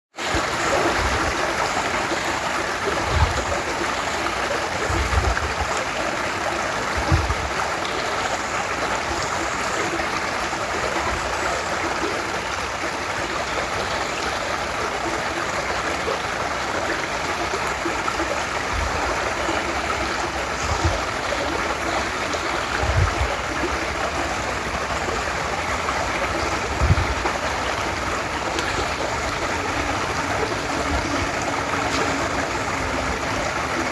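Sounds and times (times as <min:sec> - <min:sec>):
creek babbling over stones: 0:00.1 - 0:33.9.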